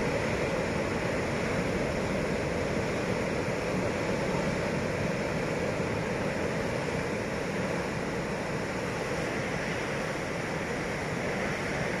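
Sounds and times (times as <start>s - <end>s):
sea surf breaking on rocks: 0.0s - 12.0s.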